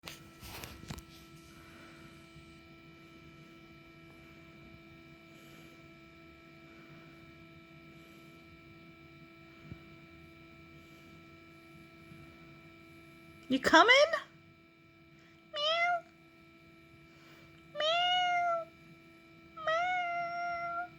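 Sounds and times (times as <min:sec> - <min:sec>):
steady electrical hum: 0:00.0 - 0:20.9.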